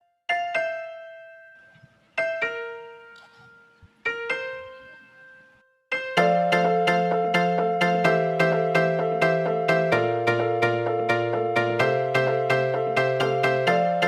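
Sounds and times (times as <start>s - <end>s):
piano chords: 0.3s - 14.0s.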